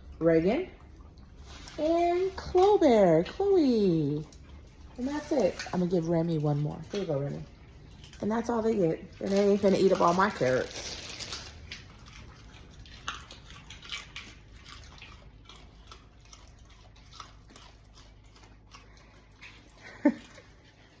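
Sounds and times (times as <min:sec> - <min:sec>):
dogs crunching carrots: 0:00.0 - 0:21.0.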